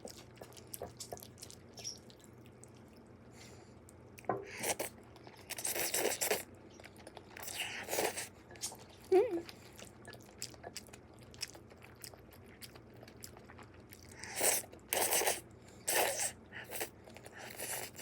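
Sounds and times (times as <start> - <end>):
mouth eating noises: 0.0 - 3.1, 4.2 - 18.0.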